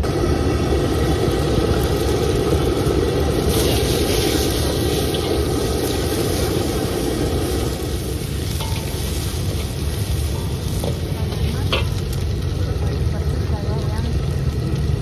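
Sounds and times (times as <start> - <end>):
bright hiss: 0.0 - 15.0
gas burner rushing: 0.0 - 15.0.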